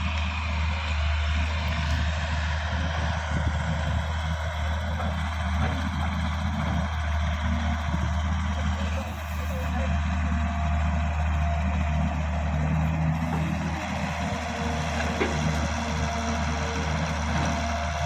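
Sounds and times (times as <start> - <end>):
diesel machinery engine droning: 0.0 - 18.0.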